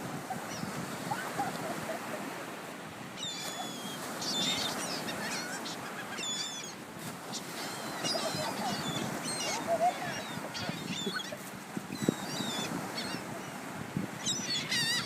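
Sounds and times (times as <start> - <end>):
surf: 0.0 - 15.0
wind: 0.0 - 15.0
seagulls calling: 0.2 - 2.4, 3.1 - 15.0.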